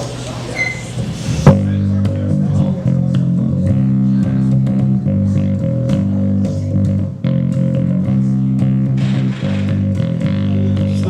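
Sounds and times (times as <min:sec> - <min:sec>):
distorted electric bass notes: 0:00.8 - 0:11.0.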